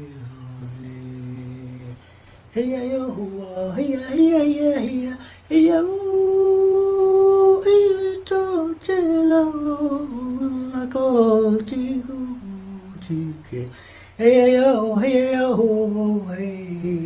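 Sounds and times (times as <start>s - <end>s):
person singing wordless chant: 0.0s - 17.0s.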